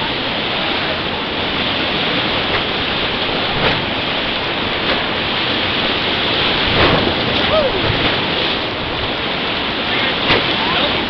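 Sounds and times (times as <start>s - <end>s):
sharp water splashes: 0.0s - 11.0s
whitewater rapids rushing: 0.0s - 11.0s.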